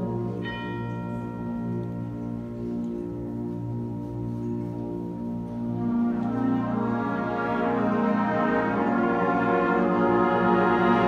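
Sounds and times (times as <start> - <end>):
concert band sustained chords: 0.0 - 11.0.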